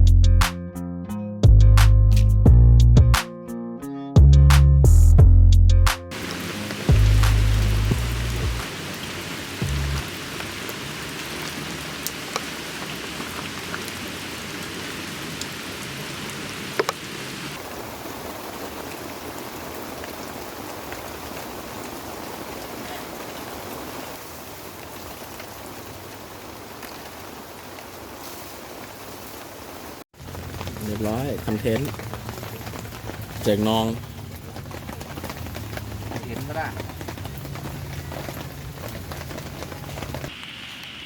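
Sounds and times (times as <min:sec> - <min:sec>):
heavy rain falling: 0:06.1 - 0:41.0.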